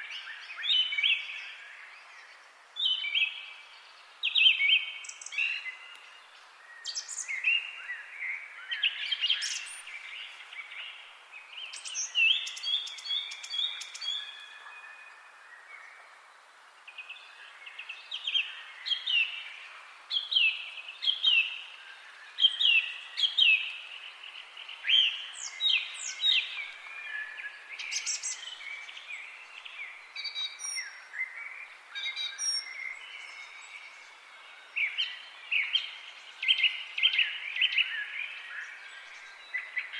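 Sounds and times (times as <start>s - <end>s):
soft steady hiss: 0.0s - 39.9s
songbirds chirping: 0.0s - 39.9s.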